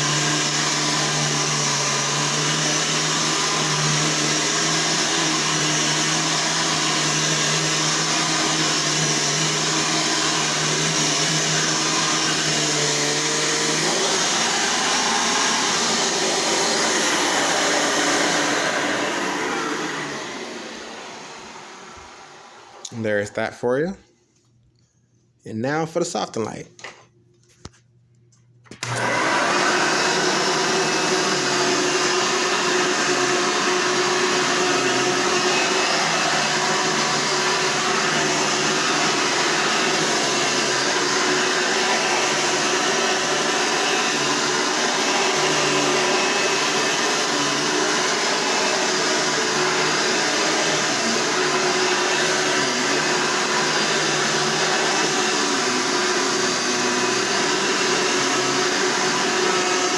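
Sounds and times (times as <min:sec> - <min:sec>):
vacuum cleaner running: 0:00.0 - 0:23.3, 0:28.7 - 0:59.9.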